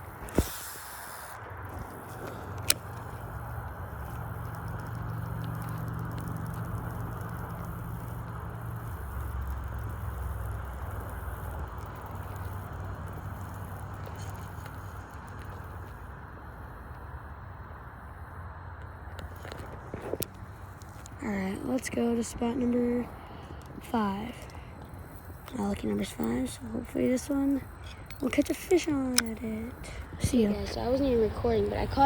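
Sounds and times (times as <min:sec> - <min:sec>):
vehicle engine hum: 0:00.0 - 0:32.0.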